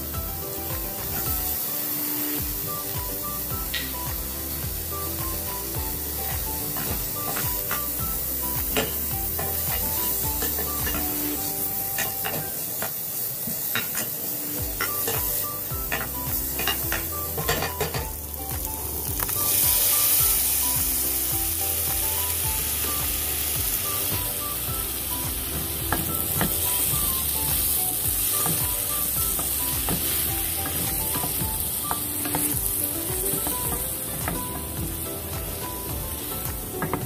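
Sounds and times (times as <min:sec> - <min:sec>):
food sizzling in a pot: 0:00.0 - 0:37.0.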